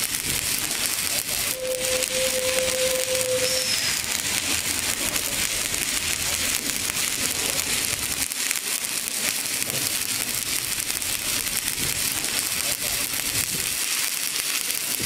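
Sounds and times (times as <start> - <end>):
arc welding crackle: 0.0 - 15.0.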